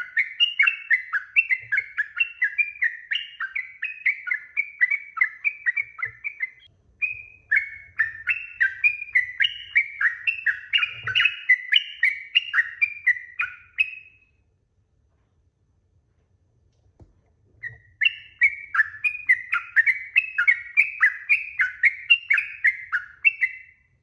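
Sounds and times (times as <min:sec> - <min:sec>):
bird singing fast chirping notes: 0:00.0 - 0:14.3, 0:17.6 - 0:24.0.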